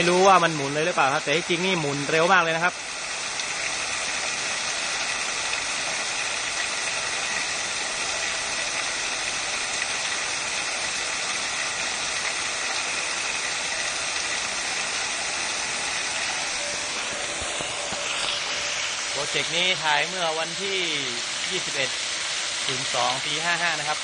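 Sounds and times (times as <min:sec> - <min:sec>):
faint turbine whine: 0:00.0 - 0:24.0
water jet rushing and spraying: 0:00.0 - 0:24.0.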